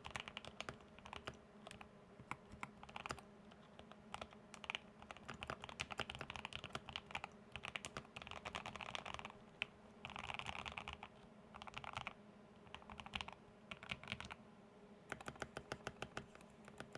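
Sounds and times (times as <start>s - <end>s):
mechanical keyboard typing: 0.0s - 14.4s, 15.1s - 16.9s.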